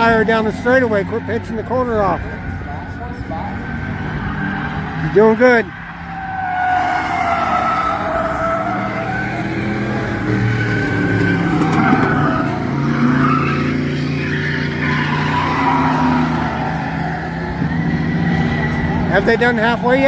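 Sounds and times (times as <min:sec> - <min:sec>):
stock car engines racing: 0:00.0 - 0:20.0.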